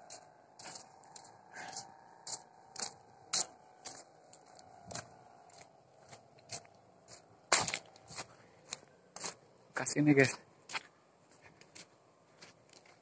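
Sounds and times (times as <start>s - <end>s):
faint steady hum: 0.0s - 13.0s
footsteps scuffing: 0.1s - 9.4s, 10.2s - 13.0s.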